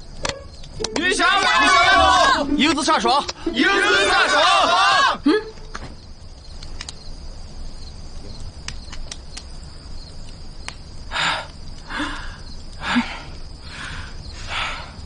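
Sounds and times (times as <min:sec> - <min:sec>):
insect chirring: 0:00.0 - 0:15.0.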